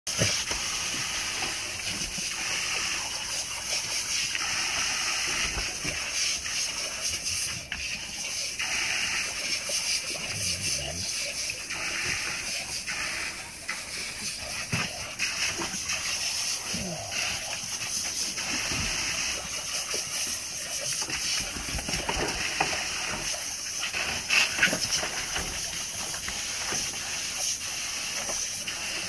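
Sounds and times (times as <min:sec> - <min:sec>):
dogs splashing in water: 0:00.1 - 0:29.0
water spraying into pool: 0:00.1 - 0:29.0.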